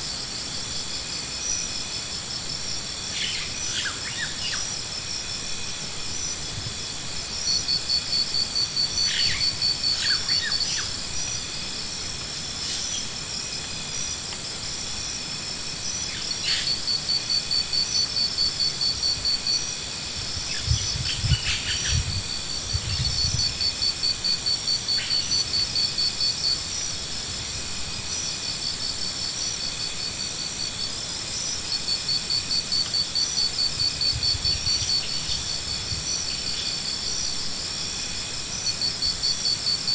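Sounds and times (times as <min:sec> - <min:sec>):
insects calling: 0:00.0 - 0:39.9
insect pulsing trill: 0:07.3 - 0:39.9.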